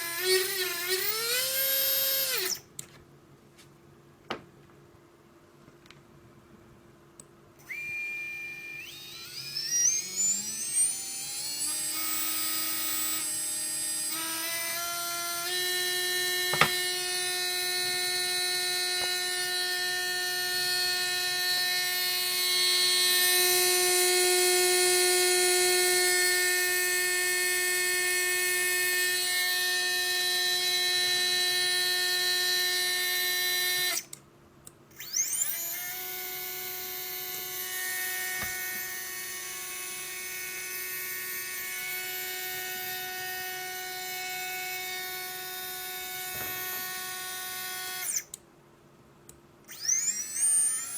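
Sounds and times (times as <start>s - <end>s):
drone motor whining: 0.0s - 2.6s, 7.6s - 34.1s, 35.0s - 48.3s, 49.7s - 50.9s.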